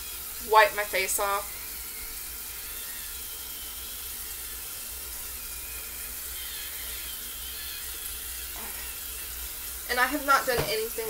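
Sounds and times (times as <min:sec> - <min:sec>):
facial brush motor whine: 0:00.0 - 0:11.0
running tap hiss: 0:00.0 - 0:11.0.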